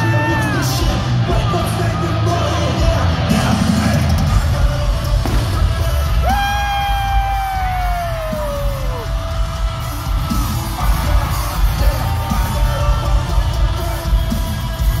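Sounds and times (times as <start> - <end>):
crowd yelling and whooping: 0.0 - 15.0
live hip-hop music: 0.0 - 15.0.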